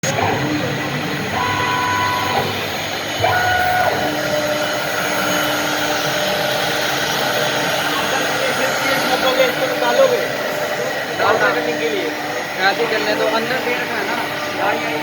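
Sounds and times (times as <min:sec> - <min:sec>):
cnc router cutting wood: 0:00.0 - 0:15.0.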